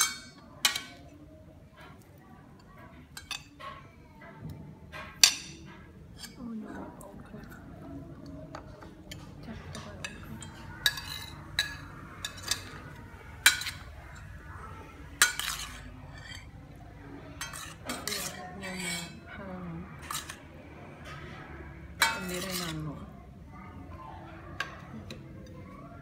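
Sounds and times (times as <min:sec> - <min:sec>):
utensils clinking on dishes: 0:00.0 - 0:06.6, 0:07.2 - 0:23.1.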